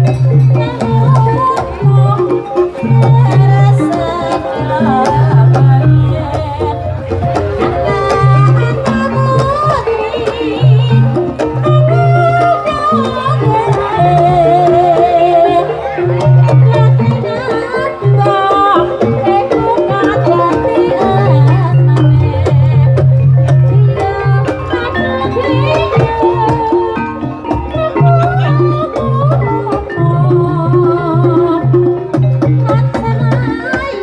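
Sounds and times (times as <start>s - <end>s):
folk music played live: 0.0s - 34.0s
hand drum strokes: 0.0s - 34.0s.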